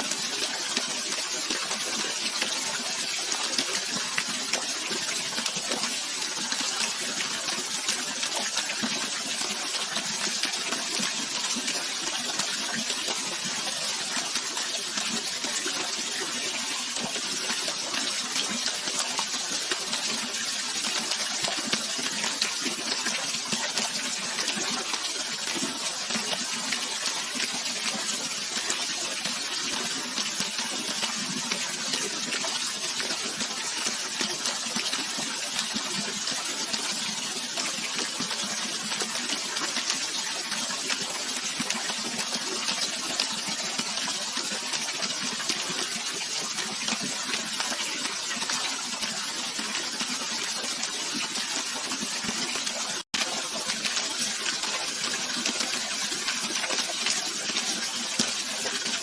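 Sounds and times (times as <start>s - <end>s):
water rushing and splashing: 0.0s - 59.0s.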